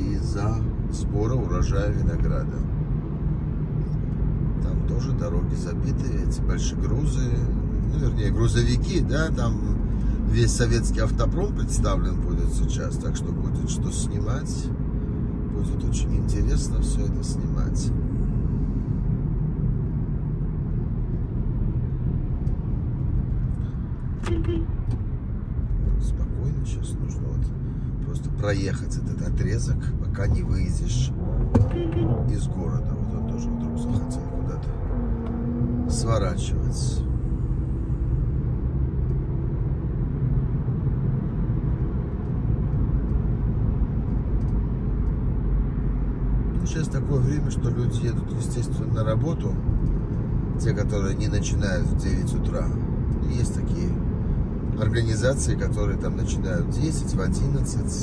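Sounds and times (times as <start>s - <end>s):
car cabin road and engine rumble: 0.0s - 58.0s.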